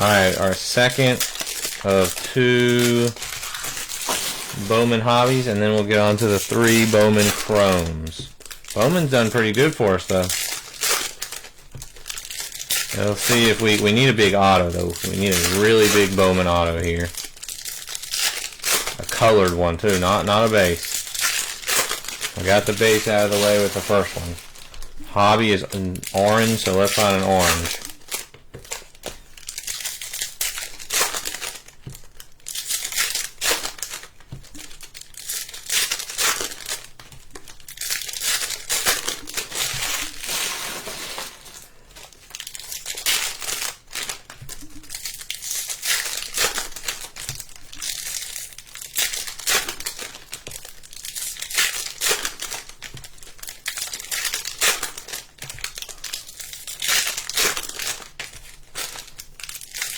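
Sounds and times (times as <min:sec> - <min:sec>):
card pack wrappers crinkling: 0:00.0 - 0:59.9
wrapper tearing: 0:00.0 - 0:59.9.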